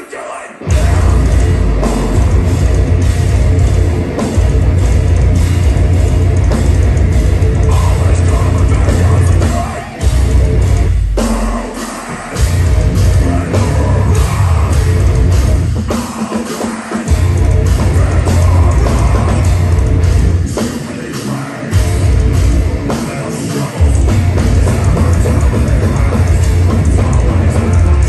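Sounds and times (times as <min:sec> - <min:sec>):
drums: 0:00.0 - 0:28.0
heavily distorted guitars: 0:00.0 - 0:28.0.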